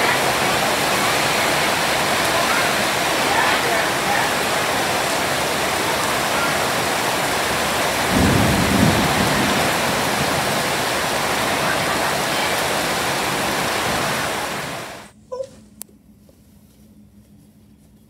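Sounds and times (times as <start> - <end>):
heavy rain pouring: 0.0 - 15.1.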